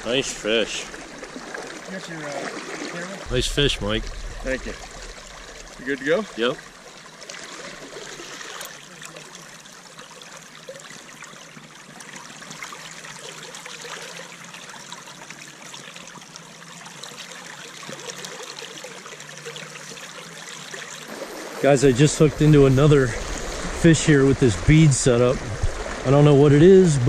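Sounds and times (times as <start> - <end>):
shallow river flowing: 0.0 - 27.0.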